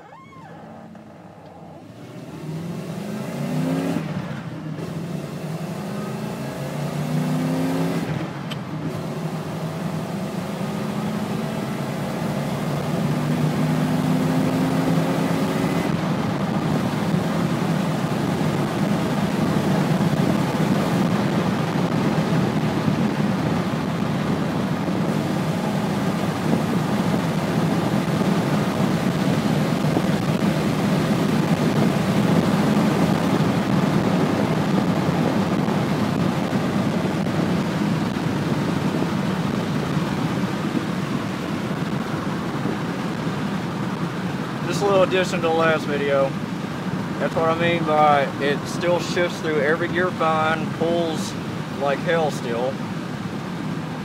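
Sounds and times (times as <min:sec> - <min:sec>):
car engine accelerating: 0:00.0 - 0:51.0
road noise: 0:00.0 - 0:54.0.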